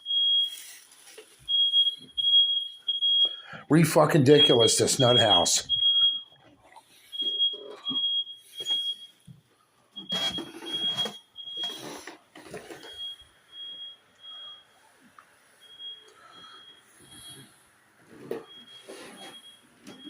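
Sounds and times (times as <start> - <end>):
smoke alarm beeping: 0.0 - 14.8, 15.6 - 17.6, 18.2 - 20.0.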